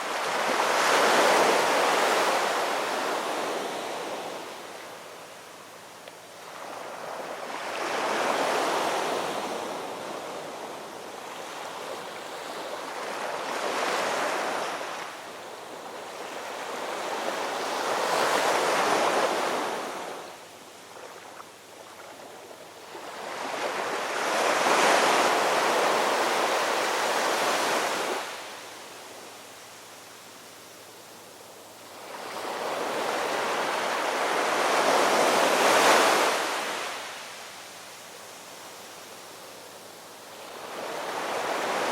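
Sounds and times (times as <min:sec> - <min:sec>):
waves breaking and washing in: 0:00.0 - 0:41.9.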